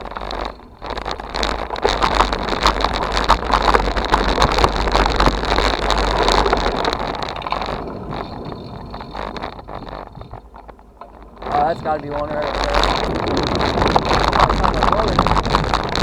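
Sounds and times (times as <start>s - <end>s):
low rumble: 0.0s - 16.0s
rattles and knocks from bumps: 0.0s - 16.0s
wind buffeting camera: 0.0s - 16.0s.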